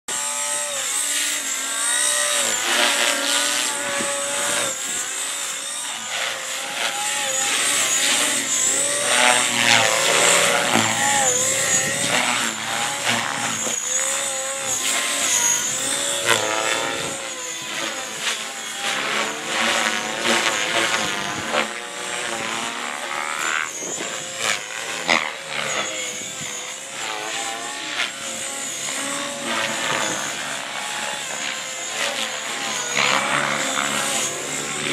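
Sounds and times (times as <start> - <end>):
rc helicopter motor whine: 0.1 - 34.9.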